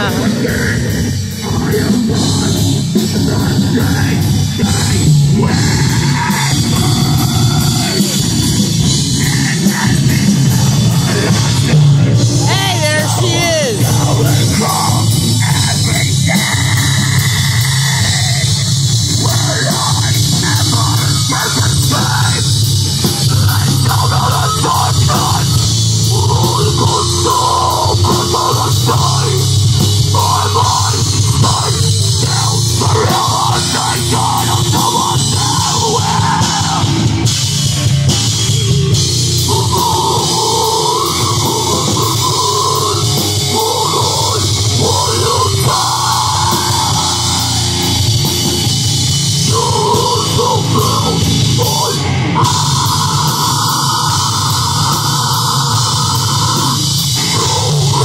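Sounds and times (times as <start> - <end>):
person singing: 0.0 - 58.0
rock band playing loudly: 0.0 - 58.0.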